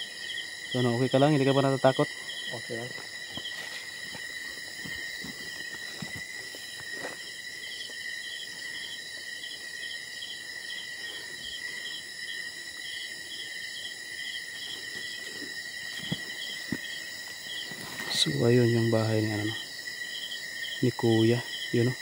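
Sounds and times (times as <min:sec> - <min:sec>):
night insects chirring: 0:00.0 - 0:22.0.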